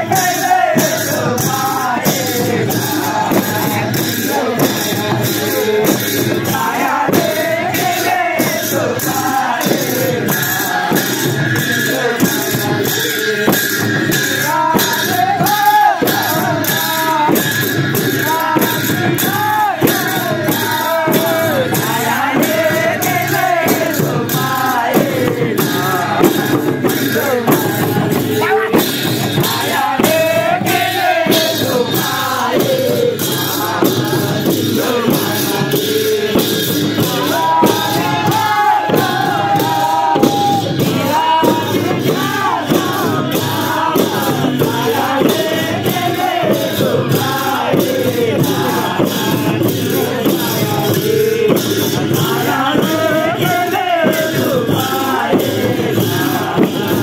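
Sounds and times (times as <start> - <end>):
hand drums beating: 0.0 - 57.0
men singing together: 0.0 - 57.0.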